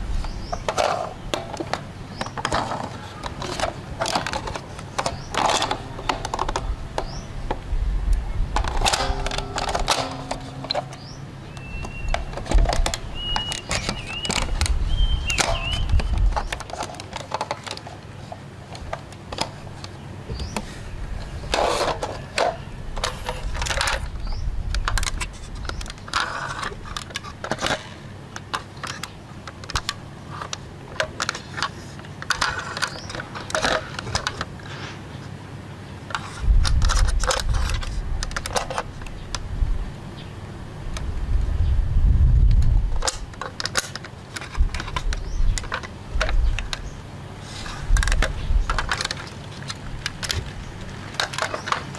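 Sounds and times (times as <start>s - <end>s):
toy vehicles clicking and rattling: 0.4s - 7.2s, 8.6s - 19.9s, 21.2s - 34.8s, 36.1s - 39.2s, 42.9s - 51.9s.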